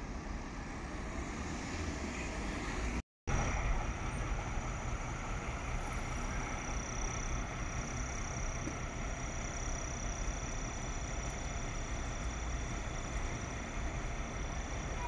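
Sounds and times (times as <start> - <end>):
diesel engines idling: 0.0 - 15.0.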